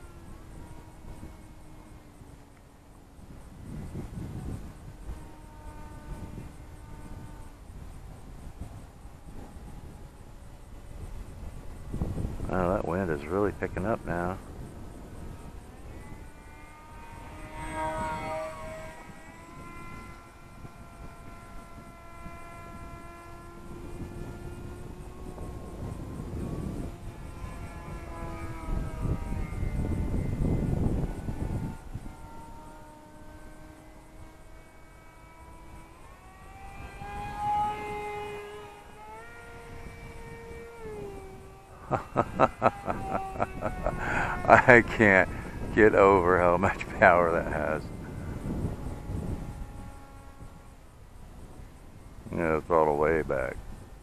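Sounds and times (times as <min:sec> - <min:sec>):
model plane motor whining: 0:00.0 - 0:54.0.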